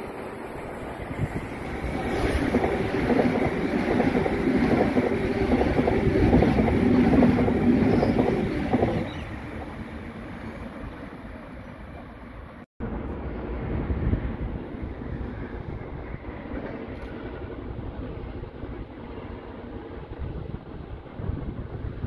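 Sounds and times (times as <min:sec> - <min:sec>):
train passing with wheel clatter: 0:00.0 - 0:22.0.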